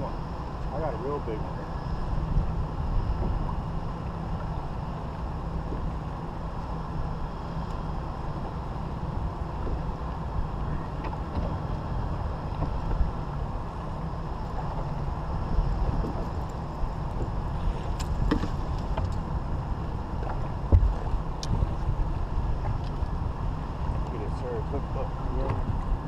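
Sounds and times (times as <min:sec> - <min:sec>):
faint steady hum: 0:00.0 - 0:26.0
wind buffeting microphone: 0:00.0 - 0:26.0.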